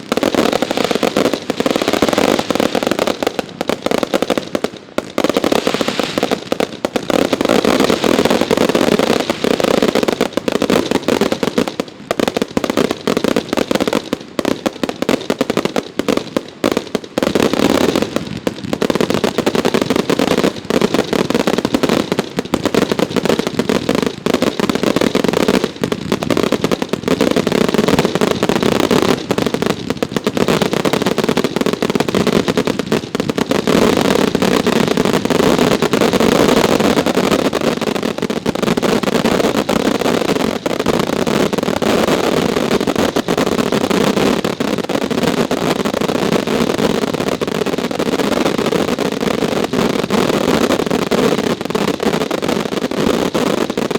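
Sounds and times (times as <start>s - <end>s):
fireworks banging and crackling: 0.0s - 53.9s.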